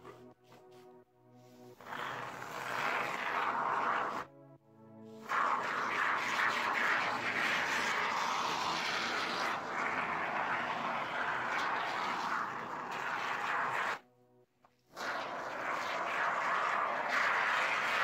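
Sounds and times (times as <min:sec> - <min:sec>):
aerosol foam can hissing: 0:01.4 - 0:04.3, 0:05.2 - 0:14.0, 0:14.9 - 0:18.0.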